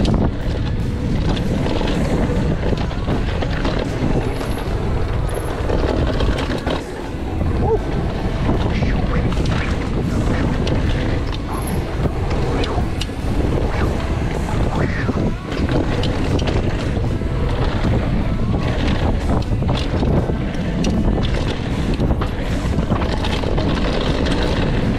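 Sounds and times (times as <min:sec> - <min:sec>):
bike clattering: 0:00.0 - 0:24.9
bike tyres on dirt trail: 0:00.0 - 0:24.9
wind buffeting microphone: 0:00.0 - 0:24.9.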